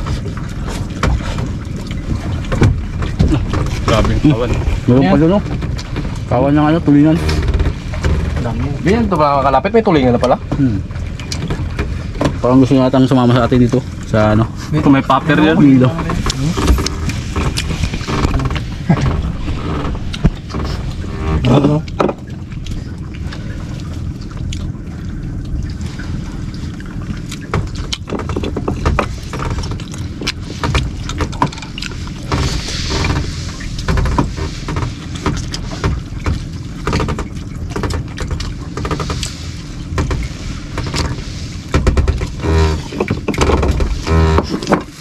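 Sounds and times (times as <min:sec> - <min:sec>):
boat engine rumbling: 0:00.0 - 0:45.0.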